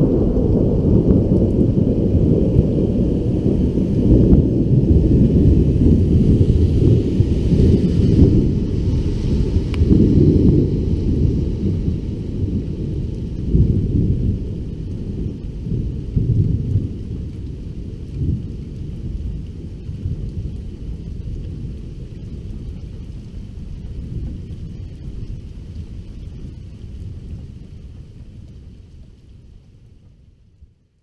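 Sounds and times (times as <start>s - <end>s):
thunder rumbling: 0.0s - 30.8s.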